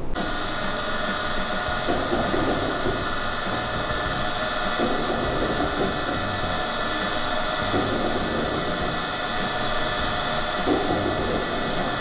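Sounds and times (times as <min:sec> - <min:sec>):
blender mechanical hum: 0:00.0 - 0:12.0
high whine: 0:00.0 - 0:12.0.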